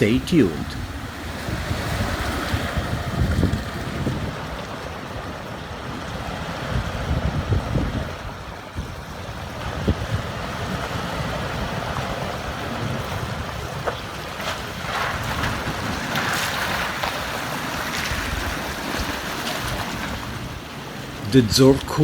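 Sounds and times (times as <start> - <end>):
wind buffeting microphone: 0.0 - 21.3
pickup truck rumbling off-road: 0.0 - 22.0.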